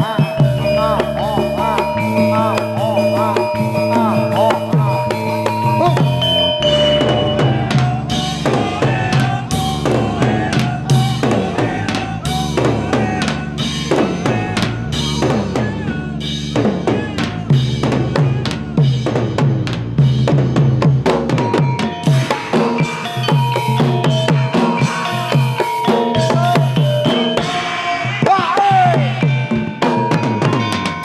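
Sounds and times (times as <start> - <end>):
pitched notes: 0.0 - 18.2, 21.0 - 31.0
drum-heavy music: 0.0 - 31.0.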